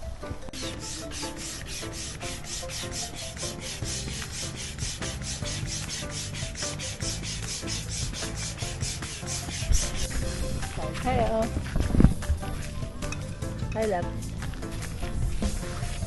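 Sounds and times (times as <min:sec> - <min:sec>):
music with scratchy beat: 0:00.6 - 0:13.2, 0:14.0 - 0:16.0.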